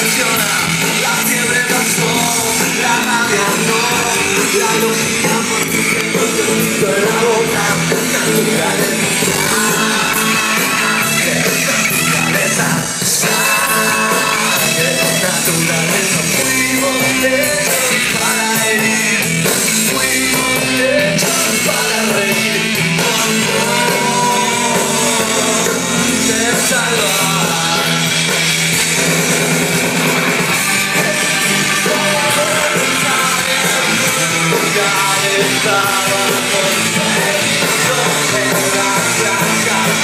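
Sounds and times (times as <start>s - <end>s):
lead singer singing: 0.0s - 29.2s, 30.2s - 40.0s
live rock band playing: 0.0s - 40.0s.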